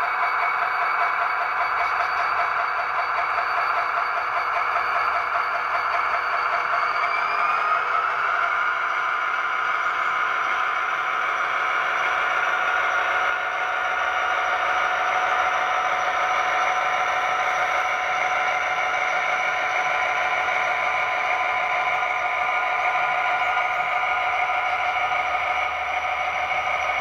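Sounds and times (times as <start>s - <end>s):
model diesel engine sound: 0.0s - 27.0s
model train clattering on track: 0.0s - 27.0s.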